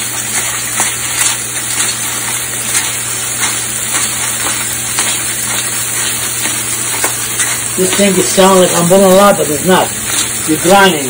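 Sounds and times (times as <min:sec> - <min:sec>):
pepper mill grinding: 0:00.0 - 0:11.0
steak sizzling in a pan: 0:00.0 - 0:11.0.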